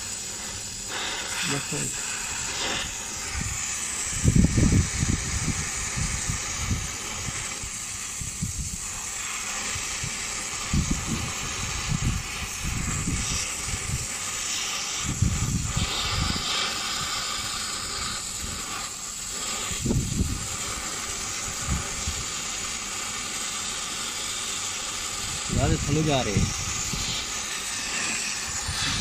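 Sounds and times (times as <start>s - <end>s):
torch flame hissing: 0.0s - 29.0s.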